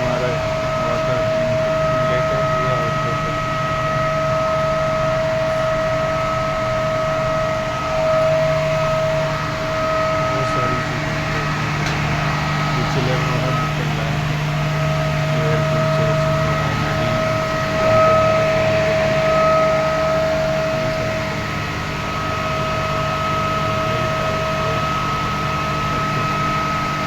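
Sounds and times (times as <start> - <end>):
high-pitched whine: 0.0 - 27.0
machine hum: 0.0 - 27.0.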